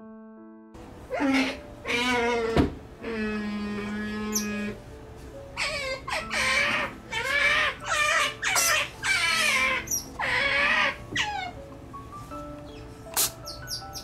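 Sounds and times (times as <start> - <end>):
otter pups squeaking: 1.1 - 4.8, 5.5 - 11.7, 12.6 - 14.0.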